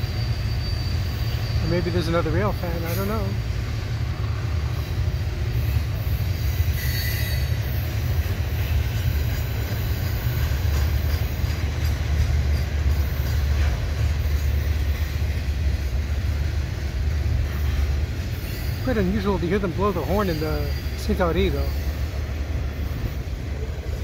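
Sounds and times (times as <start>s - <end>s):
high wheel squeal: 0.0s - 3.4s, 4.7s - 15.4s, 17.4s - 23.5s
freight train rolling past: 0.0s - 24.0s.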